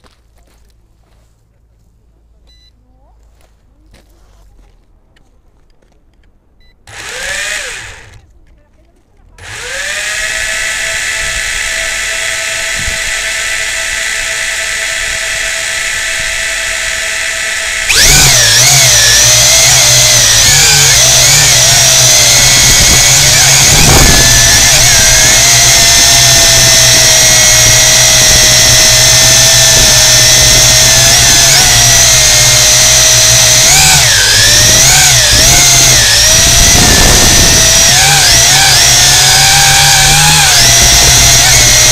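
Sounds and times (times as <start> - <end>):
drone propellers whining: 6.9 - 8.2, 9.4 - 41.9.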